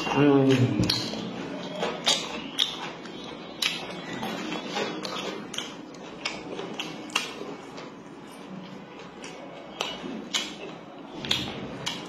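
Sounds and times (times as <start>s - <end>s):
chewing food with wet smacks: 0.0s - 12.0s.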